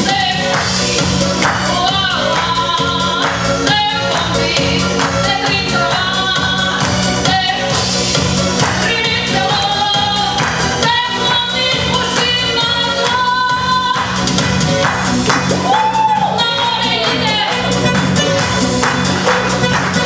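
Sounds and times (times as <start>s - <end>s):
accompaniment with steady beat: 0.0s - 20.0s.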